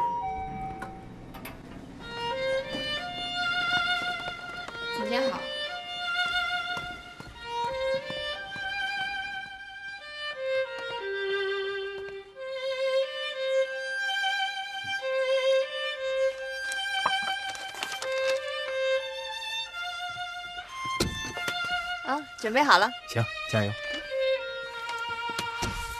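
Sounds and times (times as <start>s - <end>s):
violin melody with vibrato: 1.9s - 25.7s.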